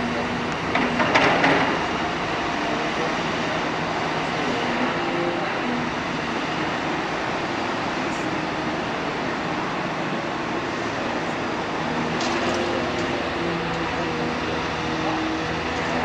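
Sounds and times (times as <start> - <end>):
diesel engine and hydraulic drone: 0.0 - 16.0.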